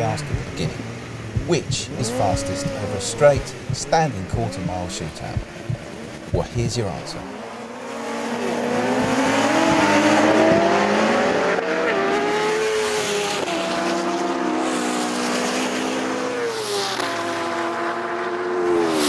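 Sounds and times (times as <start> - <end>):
racing engines accelerating: 0.0 - 19.0.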